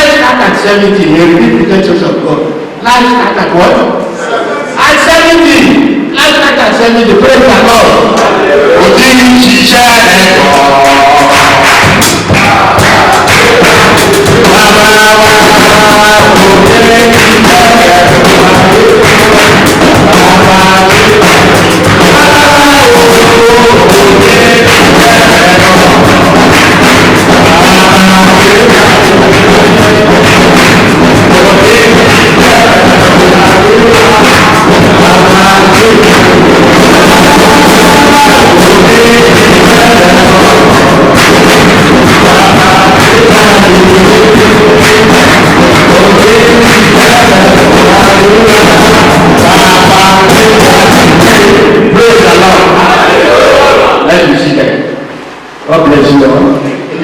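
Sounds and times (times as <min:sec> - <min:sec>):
praise music through pa: 0:00.0 - 0:57.0
drum kit: 0:07.2 - 0:53.8
people singing: 0:08.2 - 0:54.6.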